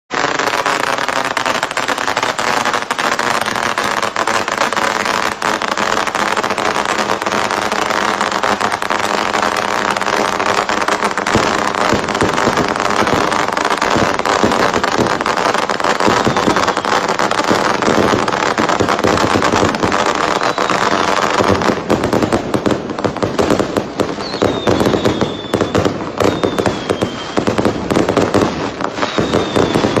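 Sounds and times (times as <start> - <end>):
fireworks crackling pops: 0.1 - 30.0
fireworks hissing crackle: 0.1 - 30.0.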